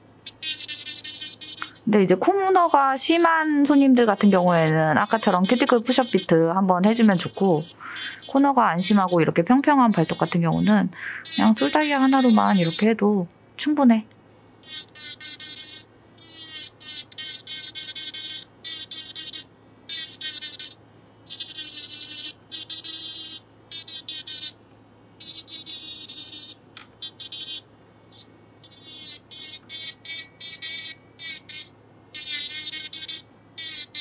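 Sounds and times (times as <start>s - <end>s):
electric nail drill whining: 0.2s - 1.8s, 2.5s - 12.9s, 14.6s - 24.6s, 25.2s - 34.0s.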